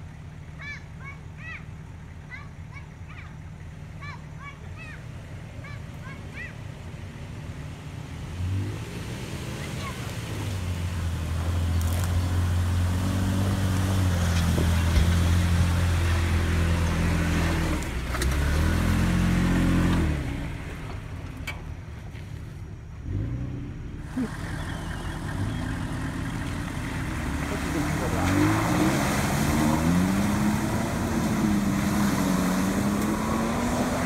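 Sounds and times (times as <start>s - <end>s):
pickup engine pulling under load: 5.0s - 34.0s.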